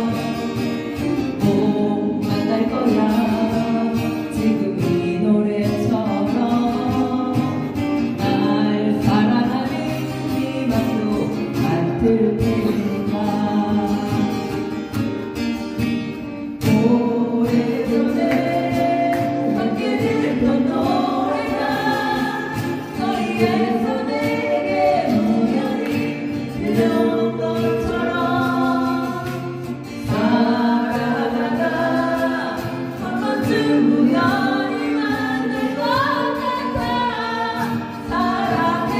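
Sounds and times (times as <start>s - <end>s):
voices singing together: 0.0s - 14.8s, 16.6s - 38.9s
guitar accompaniment: 0.0s - 38.9s.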